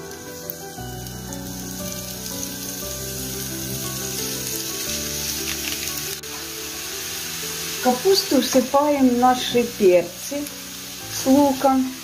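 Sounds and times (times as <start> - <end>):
soft background music: 0.0 - 12.0
vegetables sizzling in hot oil: 0.0 - 12.0.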